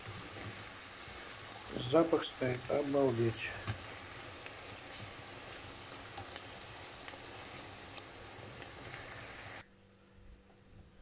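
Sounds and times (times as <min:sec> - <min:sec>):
food sizzling in frying pan: 0:00.0 - 0:09.6.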